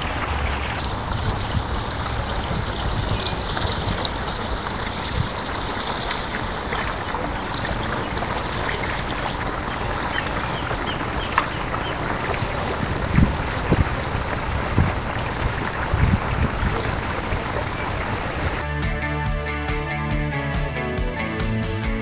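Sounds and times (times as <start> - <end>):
paddle splashes: 0.0 - 18.6
rushing water: 0.0 - 18.6.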